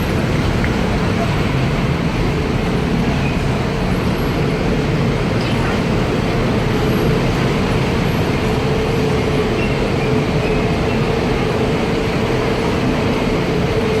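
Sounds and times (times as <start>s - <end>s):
heavy road traffic rumble: 0.0s - 14.0s.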